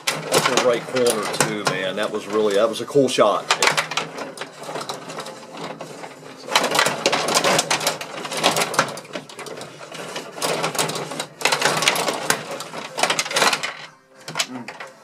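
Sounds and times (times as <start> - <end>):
plastic players and puck clacking: 0.0 - 15.0
table hockey rods rattling: 0.0 - 15.0.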